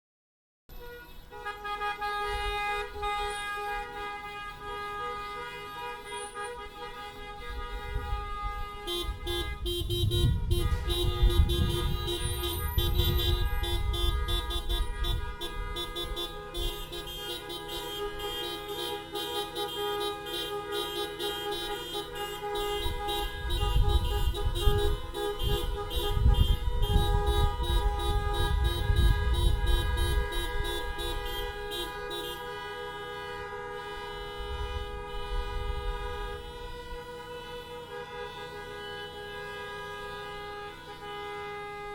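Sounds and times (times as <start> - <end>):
car horns honking: 0.7 - 41.9.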